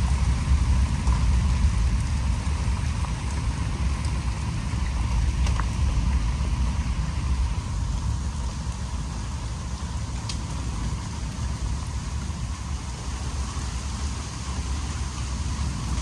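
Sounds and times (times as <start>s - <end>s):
low wind rumble: 0.0s - 16.0s
steady rain: 0.0s - 16.0s.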